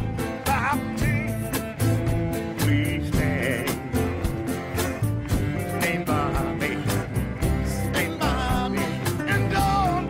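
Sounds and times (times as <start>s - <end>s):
song with drum beat: 0.0s - 10.0s.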